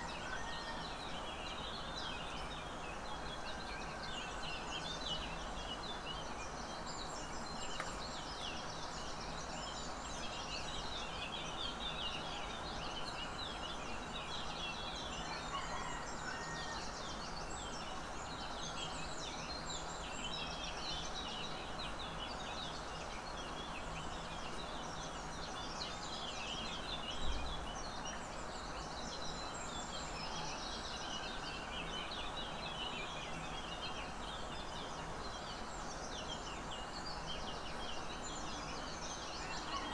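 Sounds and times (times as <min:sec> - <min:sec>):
birds chirping: 0:00.0 - 0:39.9
outdoor hiss and rumble: 0:00.0 - 0:39.9.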